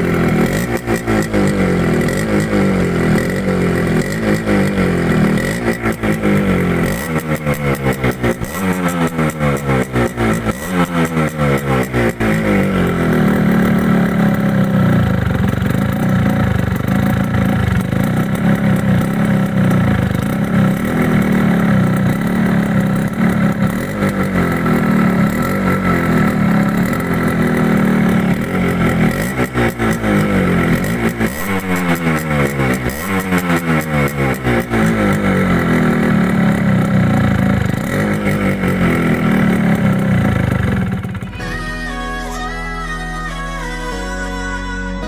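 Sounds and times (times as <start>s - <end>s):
motorcycle engine revving: 0.0s - 42.4s.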